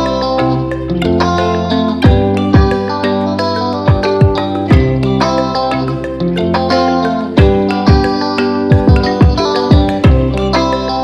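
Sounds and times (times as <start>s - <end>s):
held chords: 0.0s - 11.0s
plucked guitar-like notes: 0.0s - 11.0s.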